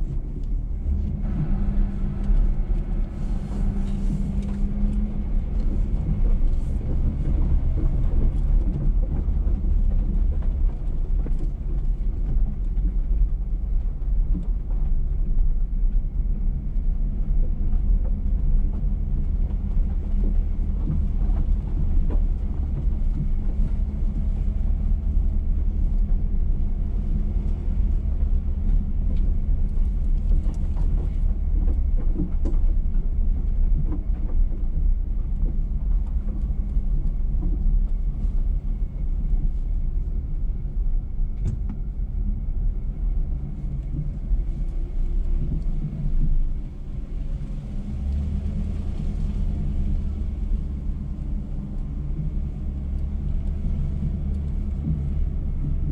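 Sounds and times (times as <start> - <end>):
truck engine rumble: 0.0 - 55.9.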